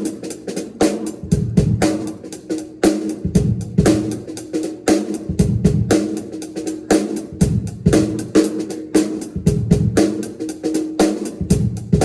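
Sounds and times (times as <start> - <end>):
drum kit groove: 0.0 - 12.0.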